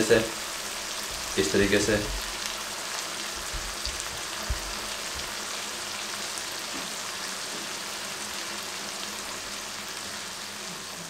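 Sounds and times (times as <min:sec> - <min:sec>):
masala sizzling in a frying pan: 0:00.0 - 0:11.0.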